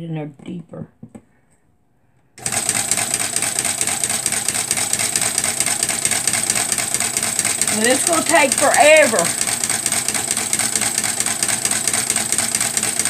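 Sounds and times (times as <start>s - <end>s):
sewing machine motor clattering: 2.4s - 13.0s.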